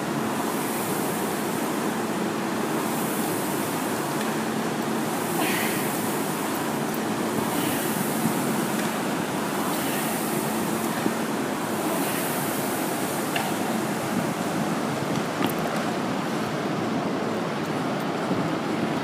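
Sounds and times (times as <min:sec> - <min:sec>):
rowing machine flywheel whooshing: 0:00.0 - 0:15.5.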